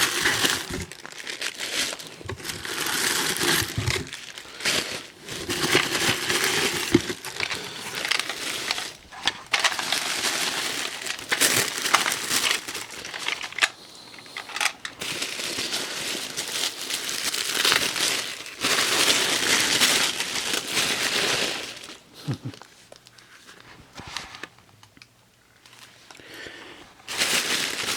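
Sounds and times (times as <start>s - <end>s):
plastic packaging crinkling: 0.0s - 27.9s.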